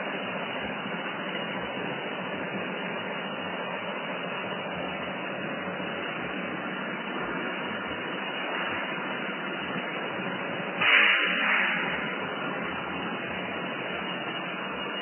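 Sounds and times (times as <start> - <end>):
machine line running: 0.0 - 15.0.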